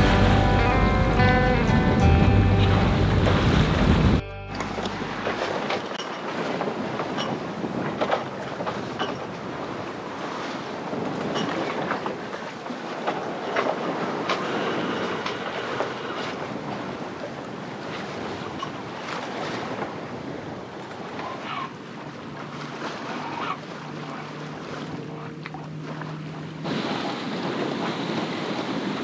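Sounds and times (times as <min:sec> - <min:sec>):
wind on microphone: 0:00.0 - 0:21.3, 0:26.6 - 0:29.0
sea water splashing along hull: 0:00.0 - 0:29.0.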